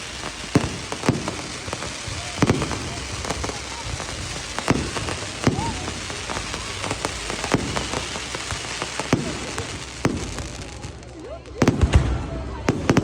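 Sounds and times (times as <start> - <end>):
bonfire crackling: 0.0 - 13.0
loud fire pops: 0.0 - 13.0.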